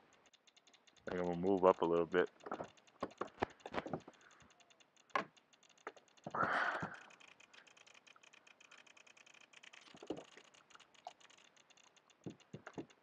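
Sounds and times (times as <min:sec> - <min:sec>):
fine crackle of clicks: 0:00.0 - 0:13.0.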